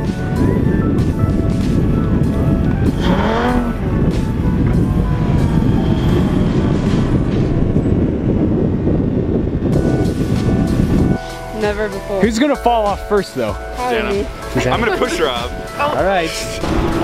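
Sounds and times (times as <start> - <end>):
background music: 0.0 - 7.8, 9.0 - 17.0
wind rumble on microphone: 0.0 - 17.0.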